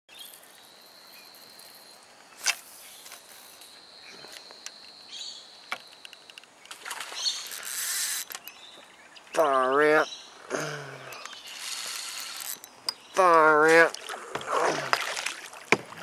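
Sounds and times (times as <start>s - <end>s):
insect trilling: 0.1s - 8.6s, 9.3s - 15.0s.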